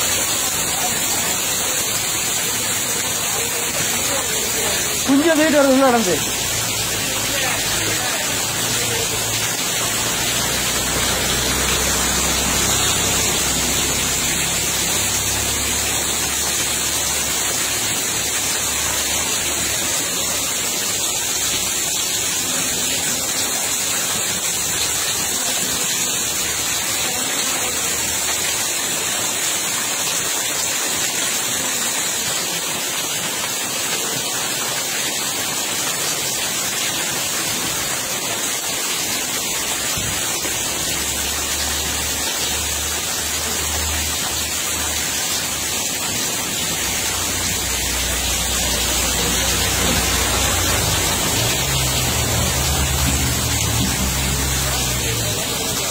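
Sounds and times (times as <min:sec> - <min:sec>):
water rushing: 0:00.0 - 0:55.9.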